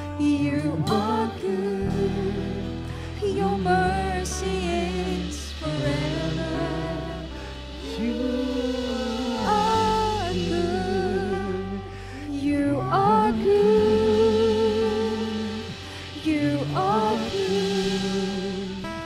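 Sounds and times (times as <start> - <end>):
low bass notes: 0.0 - 19.0
person singing: 0.0 - 19.0.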